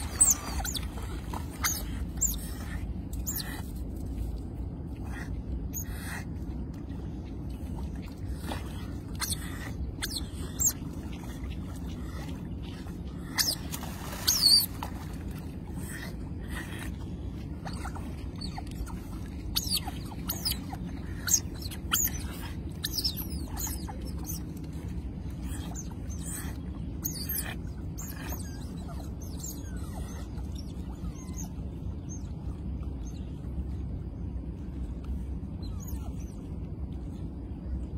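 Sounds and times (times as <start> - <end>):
low rumble: 0.0 - 37.9.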